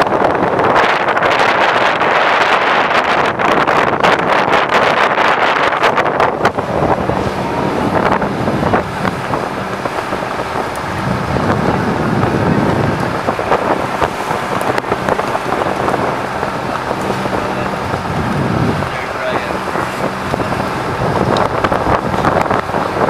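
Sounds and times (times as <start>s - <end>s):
boat engine hum: 0.0s - 23.0s
wind buffeting microphone: 0.0s - 23.0s.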